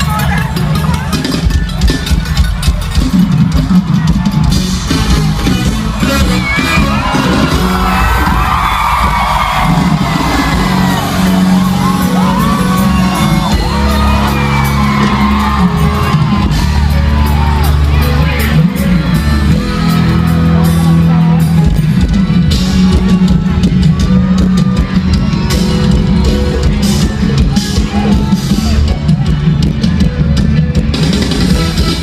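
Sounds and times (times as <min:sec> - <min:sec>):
crowd whooping and yelling: 0:00.0 - 0:32.0
live band over loudspeakers: 0:00.0 - 0:32.0.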